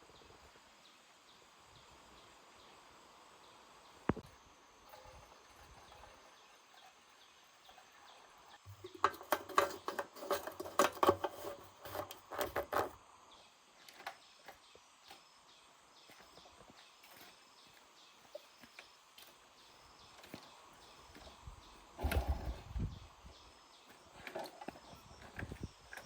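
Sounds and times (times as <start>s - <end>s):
faint outdoor background: 0.0s - 26.0s.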